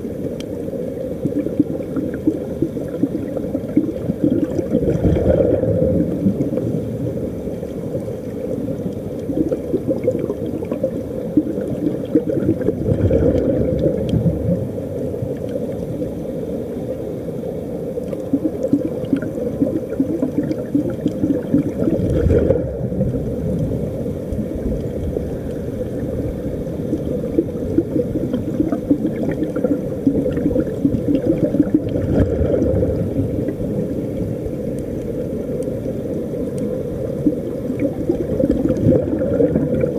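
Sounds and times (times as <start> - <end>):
air bubbles gurgling: 0.0 - 39.9
muffled underwater rumble: 0.0 - 39.9
steady crackle: 0.0 - 39.9.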